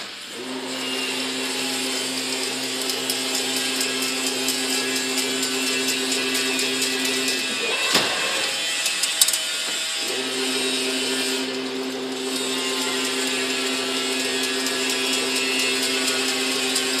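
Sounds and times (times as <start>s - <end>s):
even mechanical noise: 0.0s - 17.0s
motor hum: 0.0s - 17.0s.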